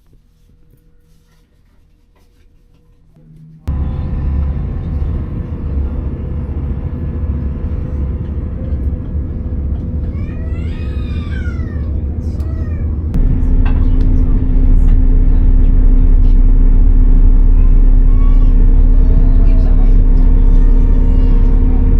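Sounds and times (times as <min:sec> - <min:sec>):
vehicle rumbling in motion: 0:03.6 - 0:21.9.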